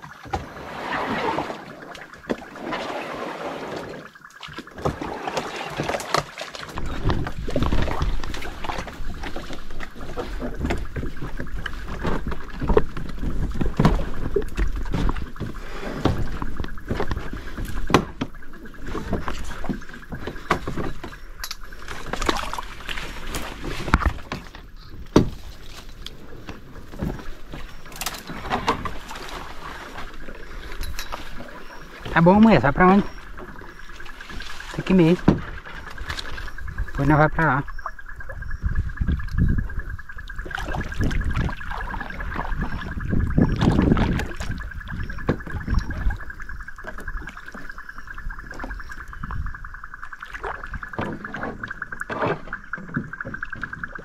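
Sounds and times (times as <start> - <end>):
paddle strokes splashing: 0.0 - 54.0
wind rumble on microphone: 6.7 - 51.8.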